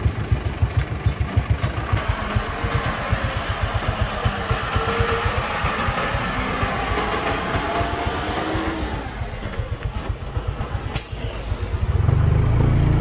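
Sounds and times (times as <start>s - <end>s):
diesel truck engine chugging: 0.0s - 13.0s.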